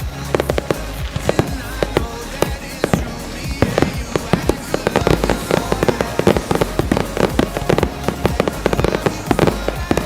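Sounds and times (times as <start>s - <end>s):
fireworks bursts and bangs: 0.0s - 10.0s.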